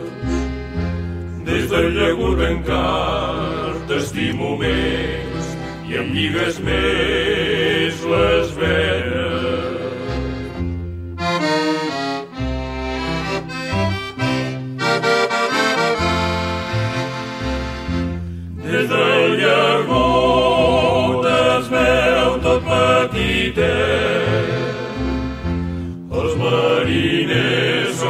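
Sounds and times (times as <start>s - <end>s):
accordion playing chords: 0.0s - 28.0s.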